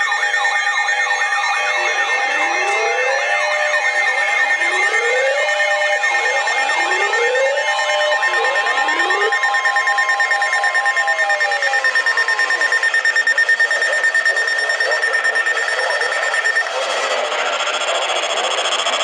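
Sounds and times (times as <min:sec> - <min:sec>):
sweeping siren-like tones: 0:00.0 - 0:19.0
pulsing beeps: 0:00.4 - 0:19.0
steady alert tones: 0:01.3 - 0:18.0.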